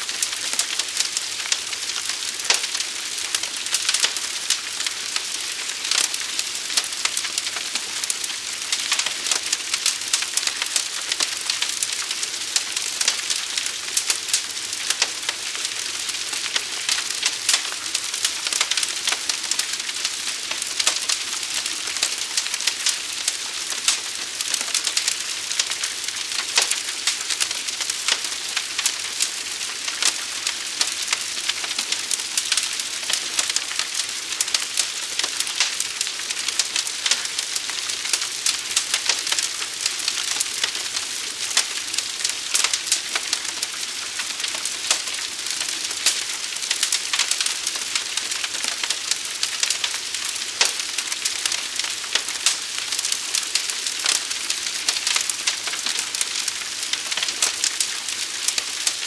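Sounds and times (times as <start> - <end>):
fire crackling and hissing: 0.0 - 59.0
burning wood popping: 0.1 - 59.0.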